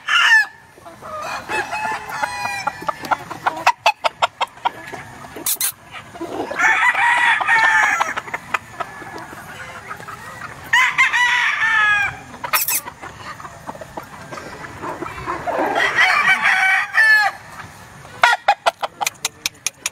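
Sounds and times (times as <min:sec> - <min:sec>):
roosters crowing: 0:00.0 - 0:19.0
rooster clucks: 0:00.0 - 0:19.9.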